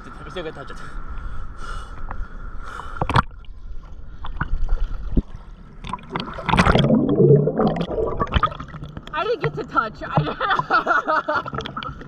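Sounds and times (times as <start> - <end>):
muffled churning water: 0.0 - 12.0
water gurgling and sloshing: 2.3 - 12.0.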